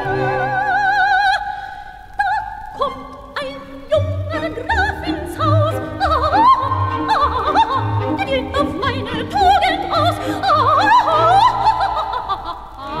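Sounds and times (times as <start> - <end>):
operatic voice singing: 2.2 - 13.0.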